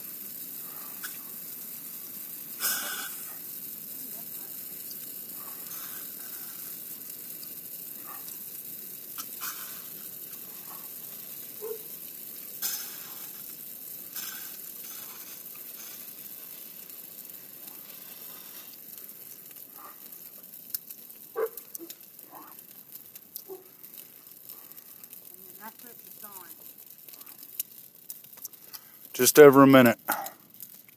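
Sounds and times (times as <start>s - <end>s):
bonfire hissing and crackling: 0.0s - 30.9s.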